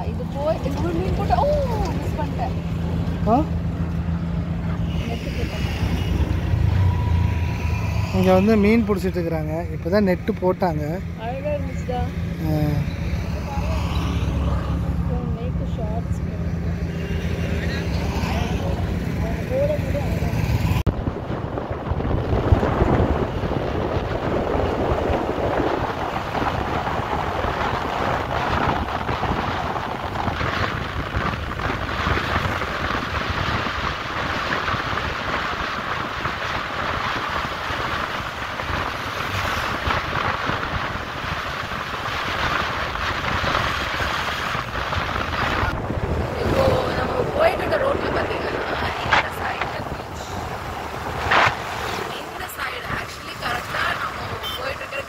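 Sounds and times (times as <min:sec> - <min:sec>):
moving vehicle running noise: 0:00.0 - 0:55.0
wind rushing over microphone: 0:00.0 - 0:55.0.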